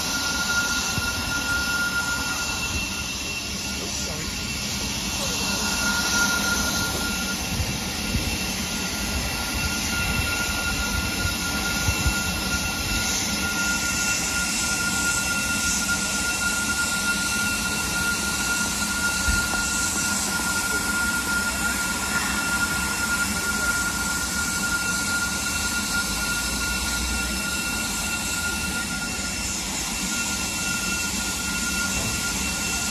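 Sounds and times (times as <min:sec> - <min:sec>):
faint high whine: 0:00.0 - 0:32.9
steam locomotive hissing: 0:00.0 - 0:32.9.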